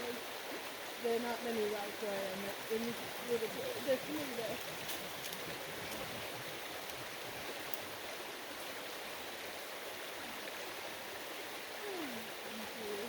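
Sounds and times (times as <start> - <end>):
fast-flowing creek water: 0.0 - 13.0.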